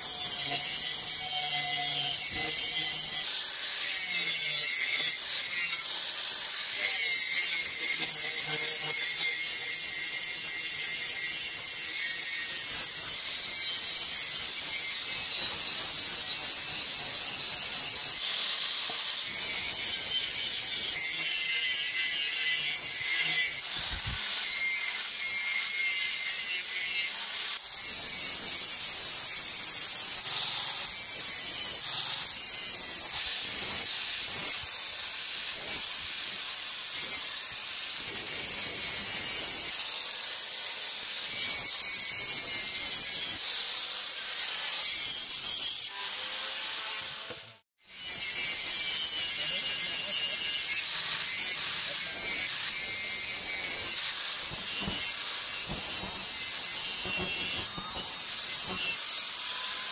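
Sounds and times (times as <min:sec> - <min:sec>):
angle grinder motor whine: 0:00.0 - 0:59.9
disc grinding steel: 0:00.0 - 0:59.9.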